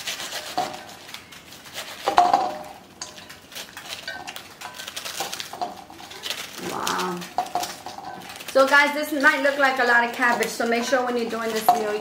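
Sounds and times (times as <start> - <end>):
knife cutting cabbage: 0.0 - 12.0
clinks on metal bowl: 2.0 - 12.0.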